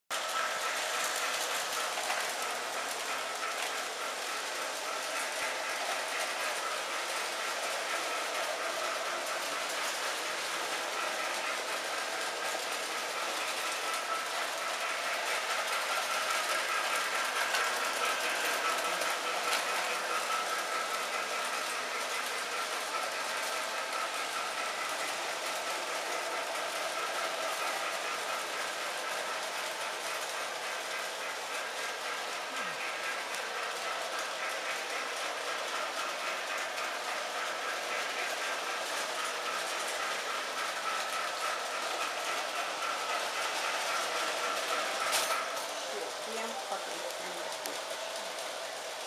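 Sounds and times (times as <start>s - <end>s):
model train motors whirring: 0.1s - 49.0s
wheels clattering over metal rails: 0.1s - 49.0s.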